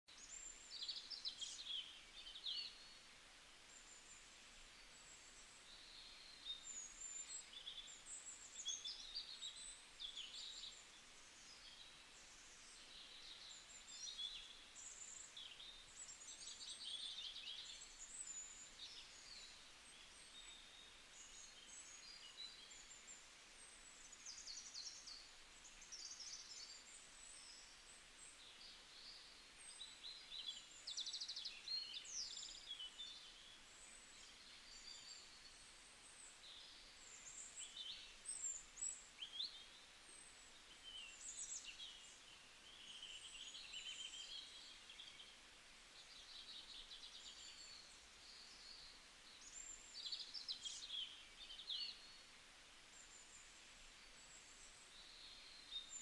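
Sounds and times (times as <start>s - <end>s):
faint birdsong chirps and trills: 0.0s - 56.0s.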